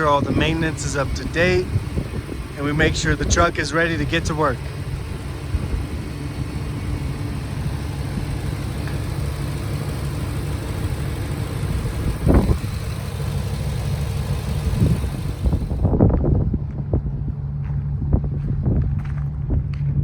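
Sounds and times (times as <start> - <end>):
truck engine idling: 0.0 - 19.4.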